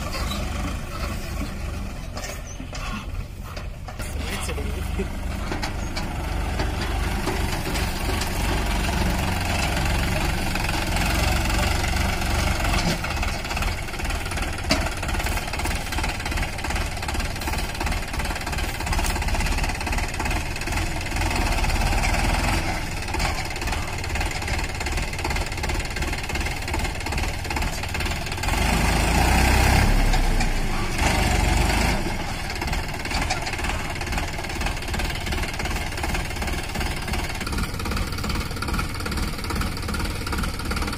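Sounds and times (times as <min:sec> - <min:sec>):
tractor diesel engine clattering: 0:00.0 - 0:40.9.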